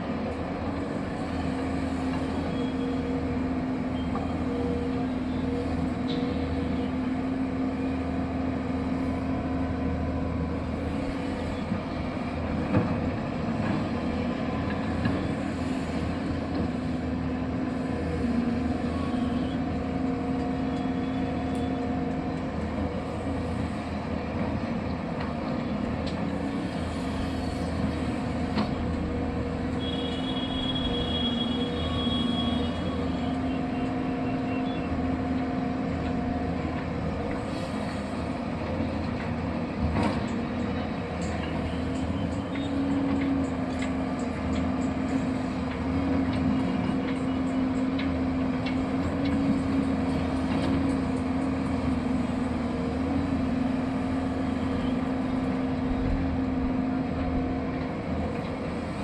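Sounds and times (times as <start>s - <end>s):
excavator engine humming: 0.0s - 59.0s.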